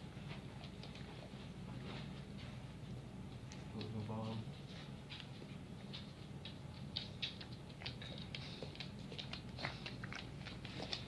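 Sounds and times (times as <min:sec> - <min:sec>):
puppy claws pattering on floor: 0:00.2 - 0:11.0.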